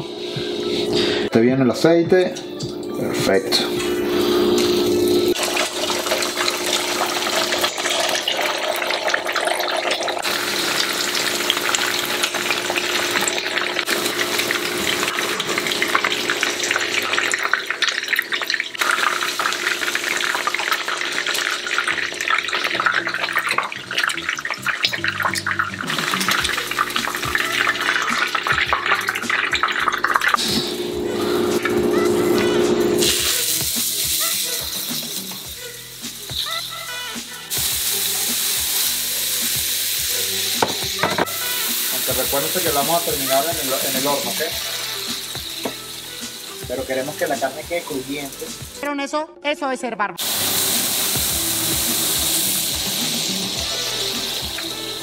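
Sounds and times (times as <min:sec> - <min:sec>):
egg whites sizzling in hot oil: 0:04.0 - 0:32.2, 0:33.0 - 0:48.9, 0:50.2 - 0:55.0.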